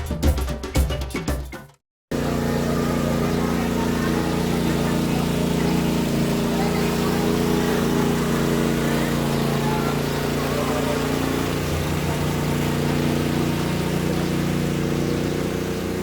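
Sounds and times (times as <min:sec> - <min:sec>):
engine running steadily: 0:02.1 - 0:16.0.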